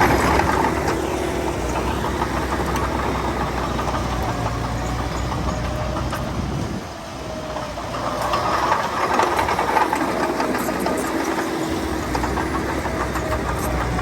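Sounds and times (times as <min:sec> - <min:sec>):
diesel machinery knocking engine: 0:00.0 - 0:14.0.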